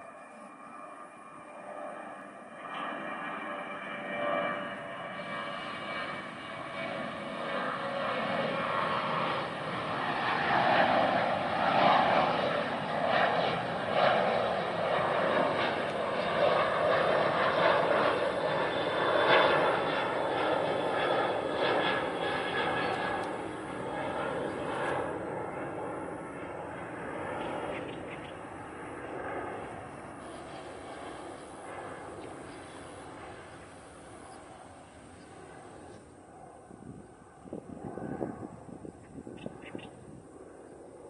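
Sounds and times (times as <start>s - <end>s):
jet airliner engines climbing: 0.0s - 41.0s.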